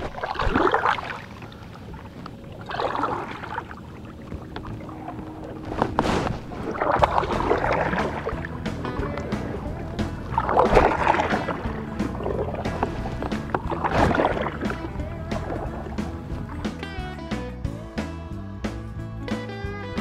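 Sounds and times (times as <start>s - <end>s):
kayak paddle splashing in water: 0.0s - 16.8s.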